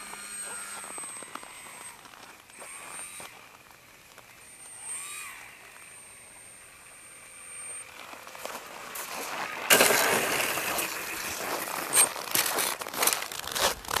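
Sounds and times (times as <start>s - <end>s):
footsteps crunching in snow: 0.0s - 5.2s, 7.8s - 14.0s.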